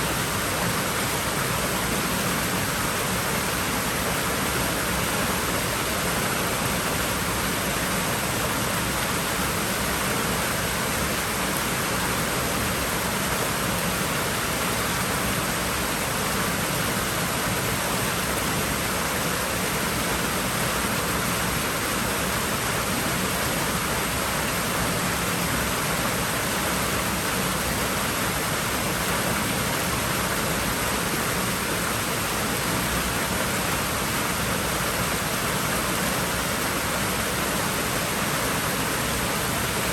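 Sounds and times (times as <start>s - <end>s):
pool water rushing and splashing: 0.0s - 39.9s.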